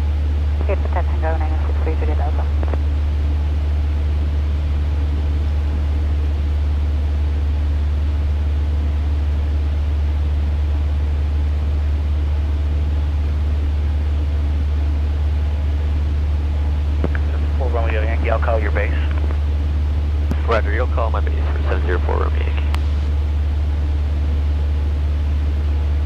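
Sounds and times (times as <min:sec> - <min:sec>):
airplane engine and propeller drone: 0:00.0 - 0:26.0.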